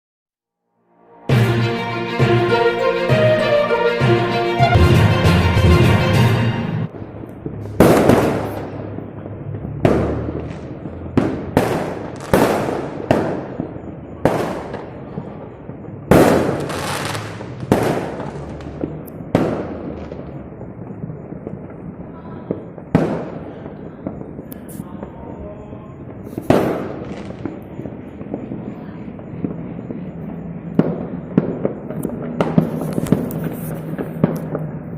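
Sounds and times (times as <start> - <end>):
firecrackers and fireworks banging: 1.2 - 34.9.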